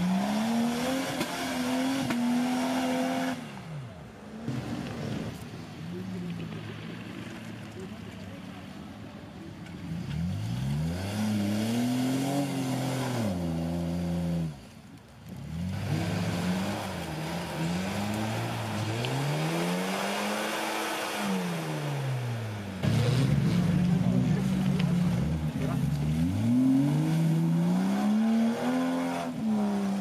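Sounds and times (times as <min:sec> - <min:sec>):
off-road engines revving: 0:00.0 - 0:30.0.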